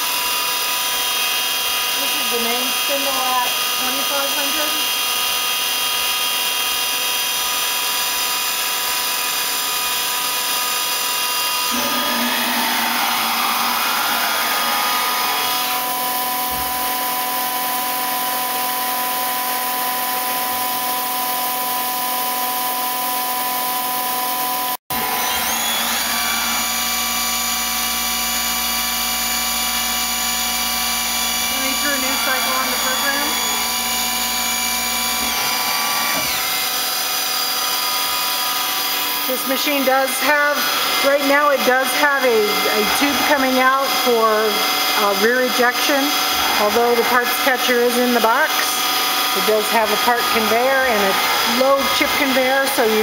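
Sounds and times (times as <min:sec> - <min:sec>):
lathe spindle whine: 0:00.0 - 0:20.0, 0:24.5 - 0:53.0.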